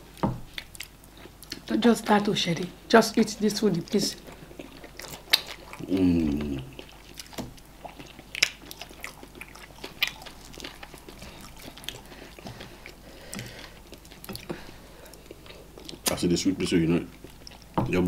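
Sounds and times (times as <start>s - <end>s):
wet chewing and lip smacks: 0.5s - 1.7s, 3.6s - 16.2s, 17.1s - 17.8s.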